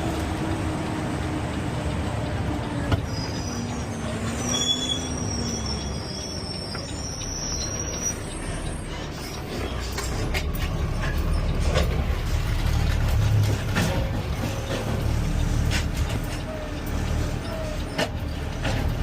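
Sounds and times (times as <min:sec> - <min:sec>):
garbage truck engine rumble: 0:00.0 - 0:19.0.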